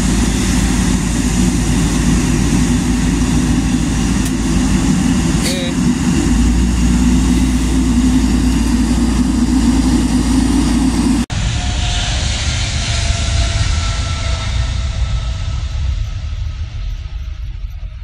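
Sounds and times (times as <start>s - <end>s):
distant jet rush and whine: 0.0s - 18.0s
jet engines rumbling: 0.0s - 18.0s.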